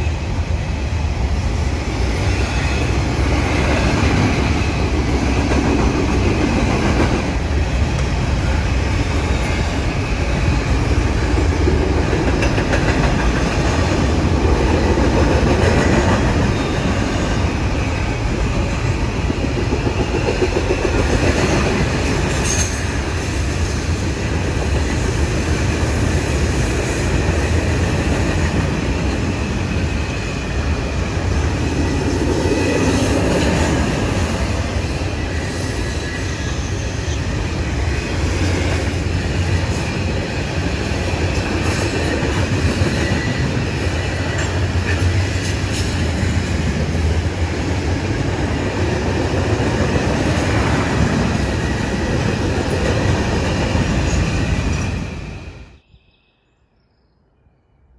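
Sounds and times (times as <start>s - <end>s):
train wheels rumbling on rails: 0.0s - 55.8s.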